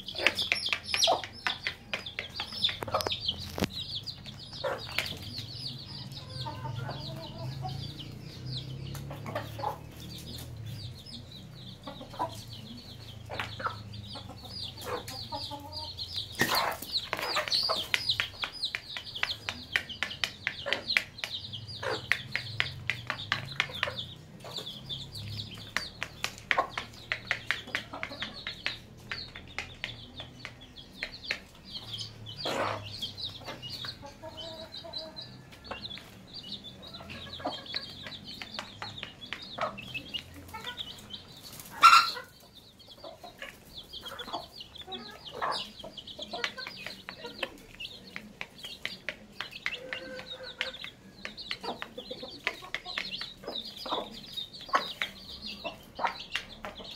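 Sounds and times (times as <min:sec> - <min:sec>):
beaks pecking plastic plate: 0:00.0 - 0:34.5, 0:35.2 - 0:56.9
chicks peeping: 0:00.0 - 0:56.9
hen clucking: 0:00.0 - 0:56.9.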